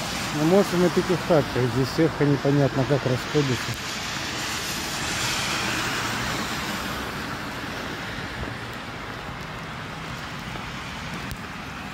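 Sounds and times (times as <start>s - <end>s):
car tyres hissing on wet road: 0.0s - 11.9s.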